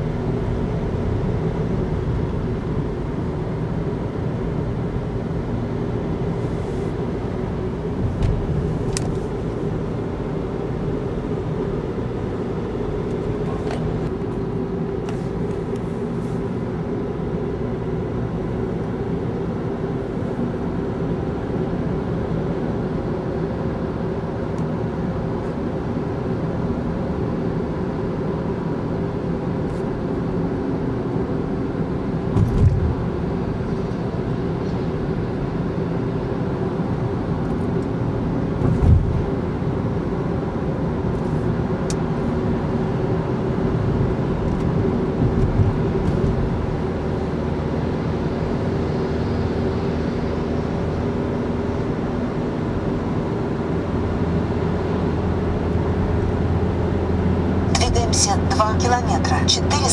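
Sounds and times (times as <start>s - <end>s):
car cabin road and engine noise: 0.0s - 59.9s.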